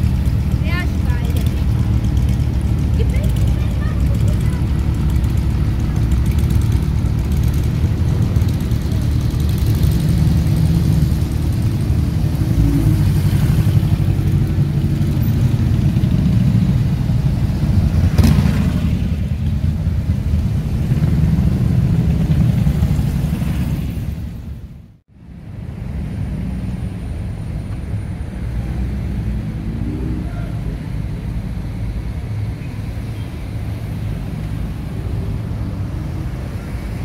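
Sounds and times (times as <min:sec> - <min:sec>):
car engines rumbling past: 0:00.0 - 0:37.0.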